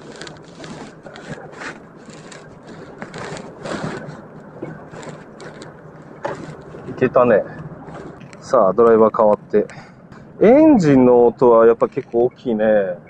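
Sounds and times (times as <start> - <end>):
people scraping and rustling: 0.0 - 13.0.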